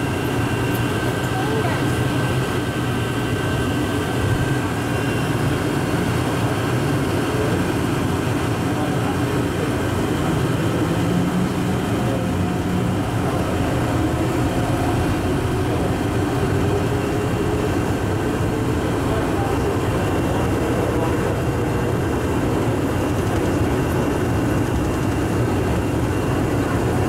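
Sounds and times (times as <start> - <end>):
train rumbling through tunnel: 0.0 - 27.0.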